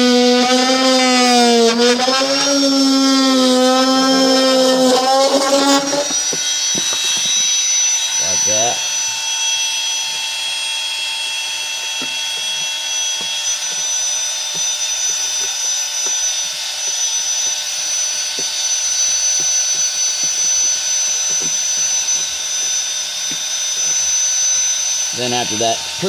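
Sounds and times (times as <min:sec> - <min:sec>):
power tool whining: 0:00.0 - 0:26.0.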